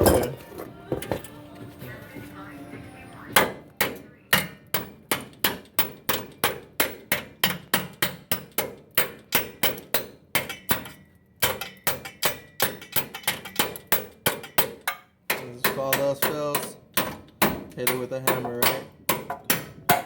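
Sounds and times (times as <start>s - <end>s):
hammer striking metal: 3.4s - 20.0s.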